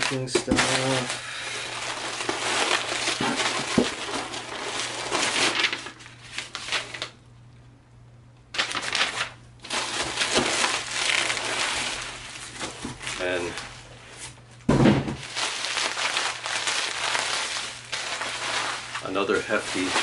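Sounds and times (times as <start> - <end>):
packing paper crumpling and rustling: 0.0 - 7.2, 8.5 - 14.4, 15.2 - 20.0.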